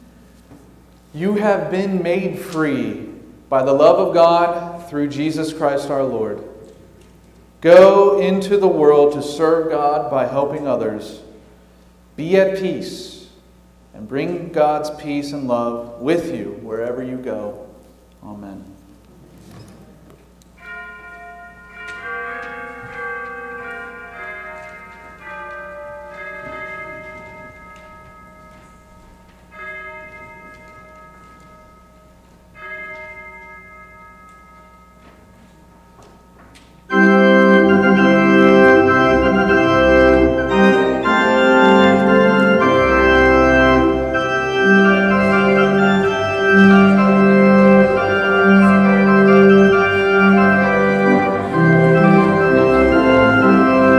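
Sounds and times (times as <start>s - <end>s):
church organ music: 0.0s - 18.8s, 20.3s - 53.9s.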